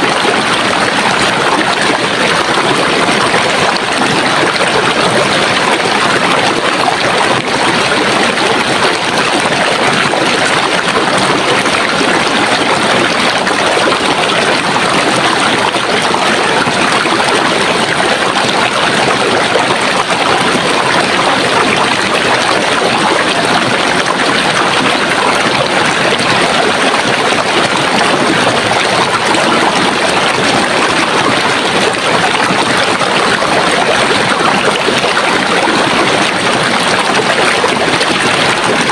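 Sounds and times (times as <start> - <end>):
stream running water: 0.0 - 38.9.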